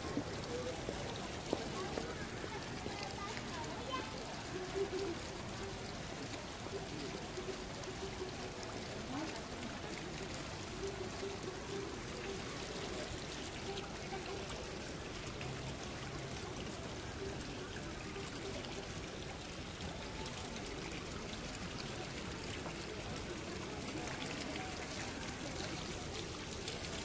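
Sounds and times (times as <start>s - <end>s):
faint voices: 0.0s - 27.0s
fountain water splashing: 0.0s - 27.0s.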